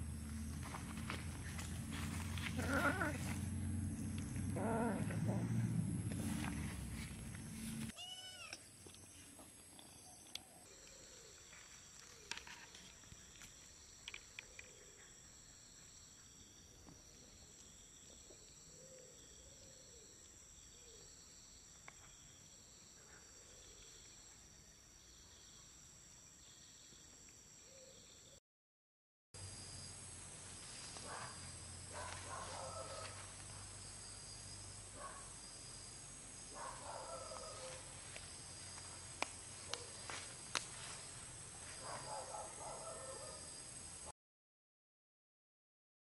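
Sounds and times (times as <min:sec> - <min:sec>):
insects chirring: 0:00.0 - 0:28.4, 0:29.4 - 0:44.1.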